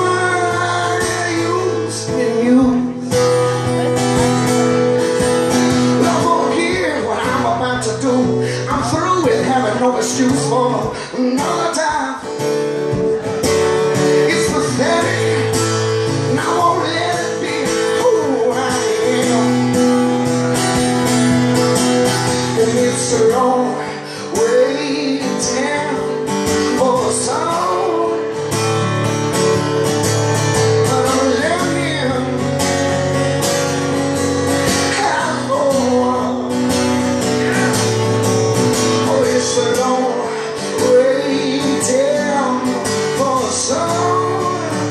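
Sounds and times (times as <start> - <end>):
acoustic guitar strumming: 0.0 - 44.9
man singing: 0.0 - 44.9.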